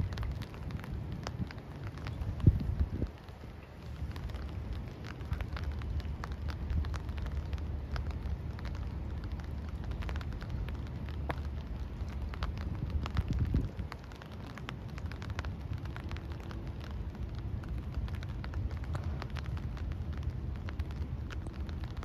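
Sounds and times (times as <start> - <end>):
crackling ticks: 0.0 - 22.0.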